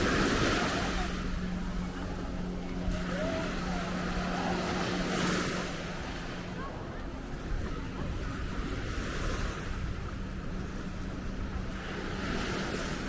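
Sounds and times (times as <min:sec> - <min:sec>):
low steady drone: 0:00.0 - 0:13.0
surf washing onto beach: 0:00.0 - 0:13.0.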